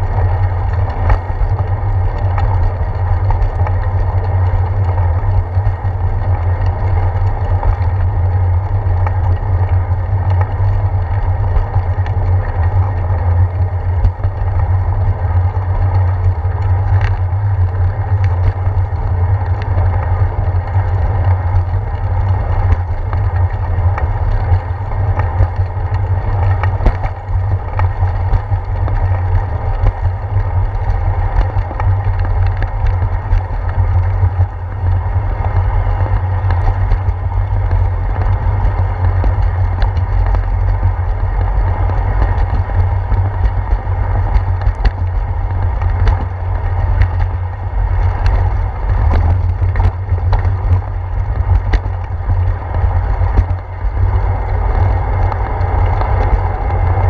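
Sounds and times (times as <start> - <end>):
wind and road vibration rumble: 0.0 - 57.0
bicycle knocking over bumps: 0.1 - 57.0.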